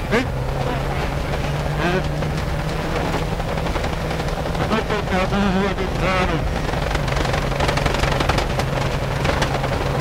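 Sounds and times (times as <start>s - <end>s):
rally car engine revving: 0.0s - 10.0s
road noise on dirt: 0.0s - 10.0s.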